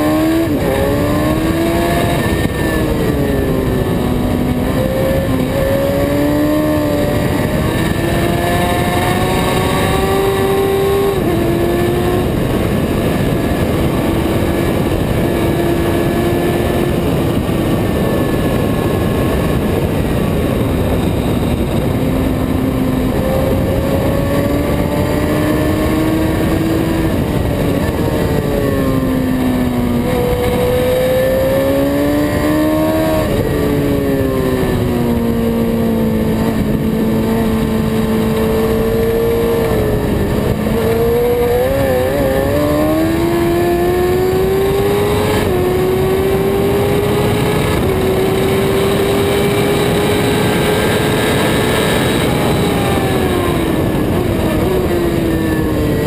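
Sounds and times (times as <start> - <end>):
motorcycle engine at high revs: 0.0 - 56.0
wind rushing over microphone: 0.0 - 56.0.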